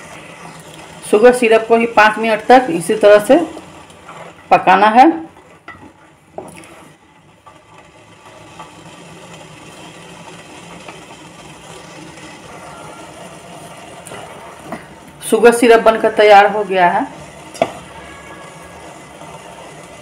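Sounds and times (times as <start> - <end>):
syrup boiling: 0.0 - 20.0.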